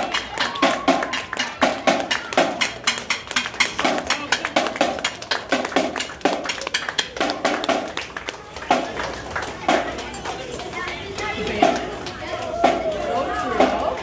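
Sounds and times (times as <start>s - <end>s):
marching snare drum beat: 0.0s - 8.0s, 8.6s - 9.0s, 9.6s - 10.0s, 11.4s - 14.0s.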